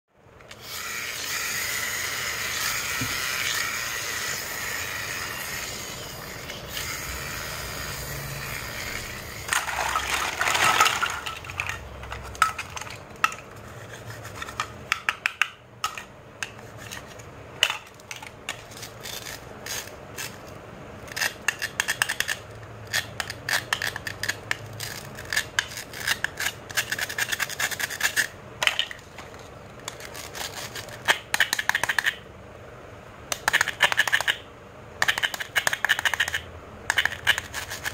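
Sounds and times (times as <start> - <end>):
plastic toys rubbing and clacking: 4.8 - 32.2, 33.3 - 37.9.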